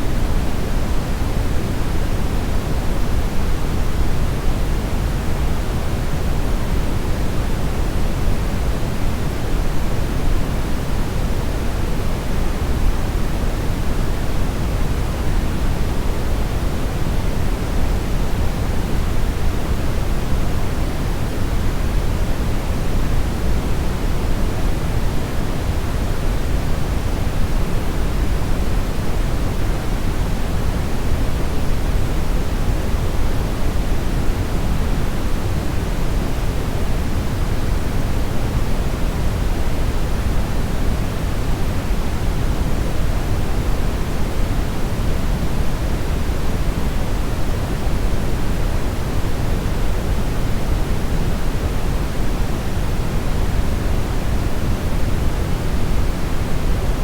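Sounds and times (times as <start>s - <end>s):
brown noise hiss: 0.0s - 57.0s.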